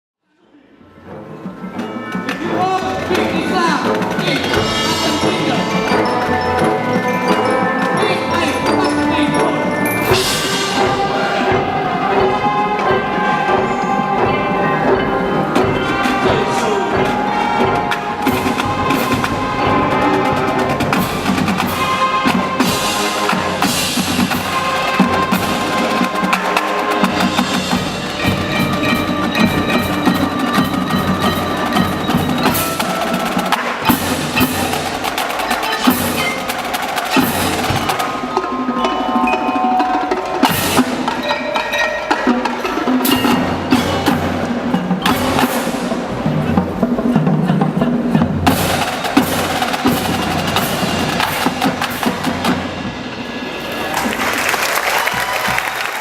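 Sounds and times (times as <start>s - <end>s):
marching band playing: 0.8s - 56.0s
drum strikes and rolls: 1.5s - 56.0s
mallet percussion ringing: 1.7s - 46.9s.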